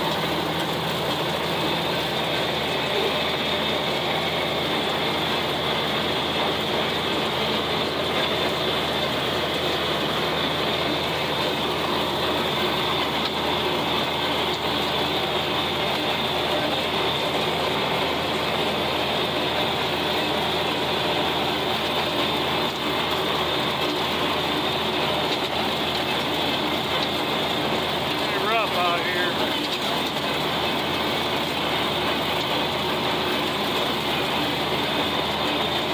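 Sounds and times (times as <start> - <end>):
rotary cutter mechanical noise: 0.0 - 35.9
tractor engine running under load: 0.0 - 35.9.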